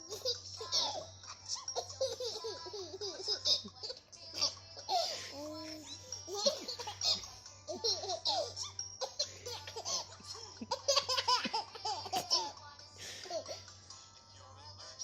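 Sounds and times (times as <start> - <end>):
baby laughing: 0.0 - 13.7.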